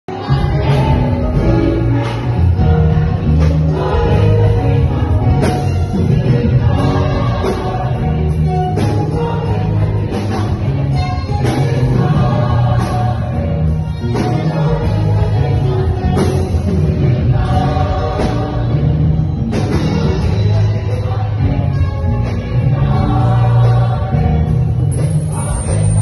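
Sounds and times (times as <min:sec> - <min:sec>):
gospel choir singing: 0:00.1 - 0:26.0
instrumental backing with bass: 0:00.1 - 0:26.0.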